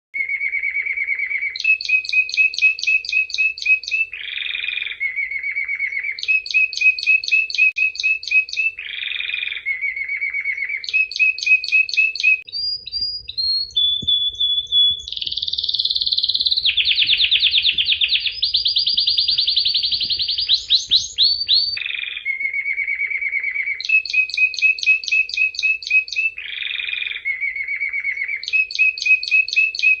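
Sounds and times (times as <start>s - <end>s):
canary singing trills: 0.2s - 30.0s.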